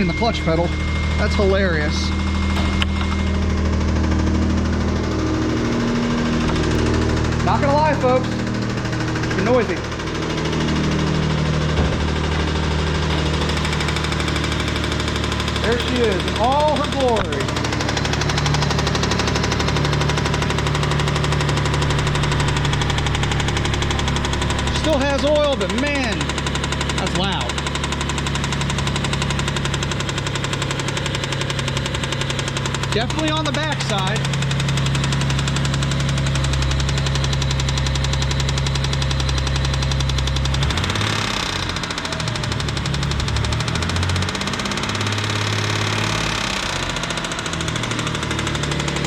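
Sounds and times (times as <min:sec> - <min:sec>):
car engine idling: 0:00.0 - 0:49.0
rapid engine lifter tick: 0:05.6 - 0:49.0.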